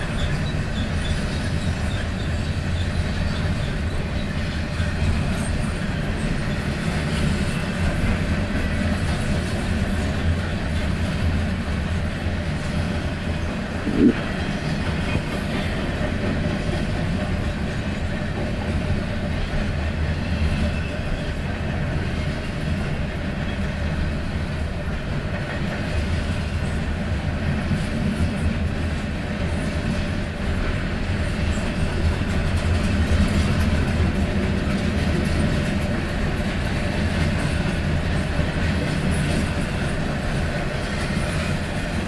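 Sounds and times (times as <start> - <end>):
freight train wheels rumbling: 0.0 - 42.0
wheels clacking over rail joints: 0.0 - 42.0.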